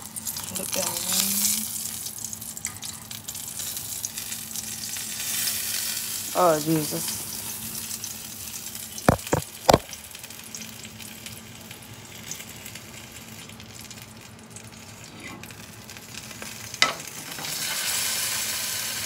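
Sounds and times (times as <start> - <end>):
sausage sizzling in a pan: 0.0 - 19.0.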